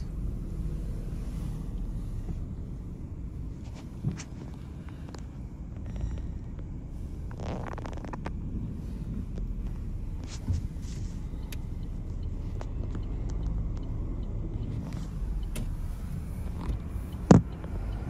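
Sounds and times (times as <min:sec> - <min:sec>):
car driving rumble: 0:00.0 - 0:18.0.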